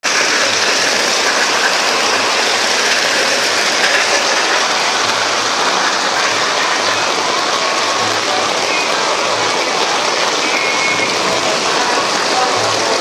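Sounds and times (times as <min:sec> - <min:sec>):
heavy rain and hail: 0:00.0 - 0:13.0.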